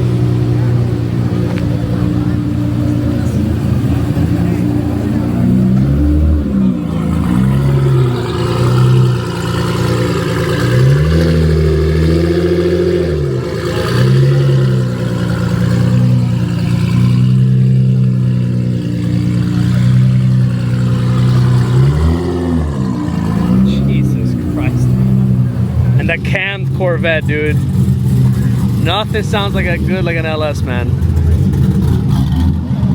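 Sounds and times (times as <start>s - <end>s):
vvee-eight engine revving: 0.0s - 32.9s.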